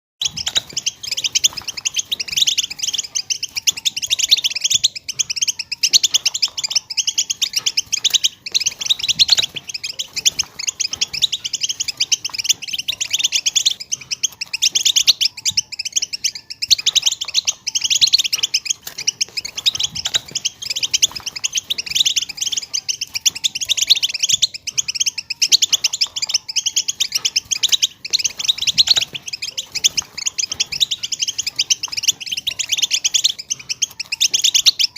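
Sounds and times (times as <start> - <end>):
goldfinch twittering: 0.2 - 34.9.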